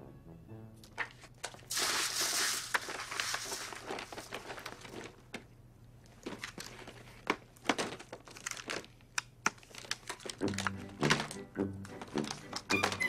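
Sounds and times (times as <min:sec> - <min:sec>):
plastic packaging crinkling: 0:00.9 - 0:11.4.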